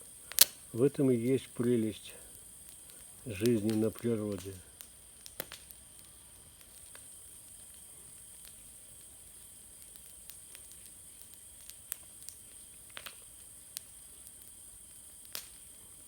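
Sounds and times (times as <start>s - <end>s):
bonfire burning with crackling pops: 0.0s - 16.0s.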